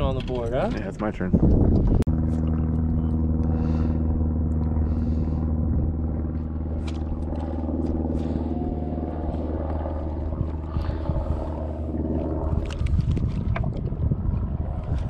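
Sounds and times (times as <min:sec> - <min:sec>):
boat motor humming: 0:00.5 - 0:15.0.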